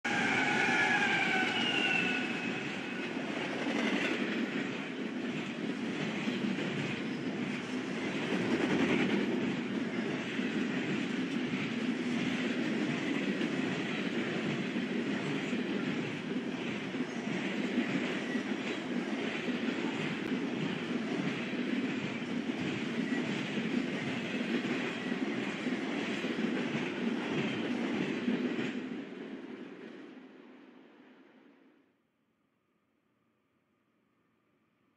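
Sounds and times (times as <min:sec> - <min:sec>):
freight train rumbling past: 0:00.0 - 0:31.3.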